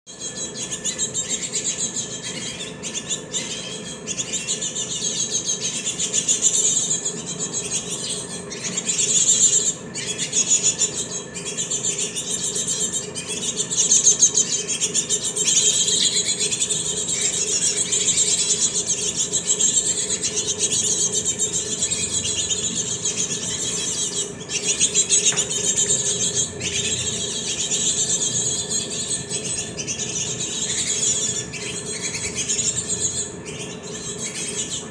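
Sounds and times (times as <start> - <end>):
faint steady hum: 0.1 - 34.9
young birds chirping: 0.1 - 34.9.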